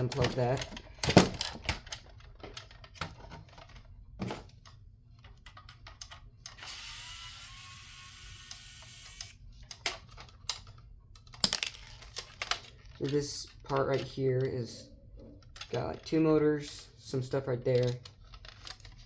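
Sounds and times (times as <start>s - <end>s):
plastic parts clicking and tapping: 0.0s - 6.6s, 8.5s - 14.6s, 15.2s - 16.8s, 17.6s - 19.0s.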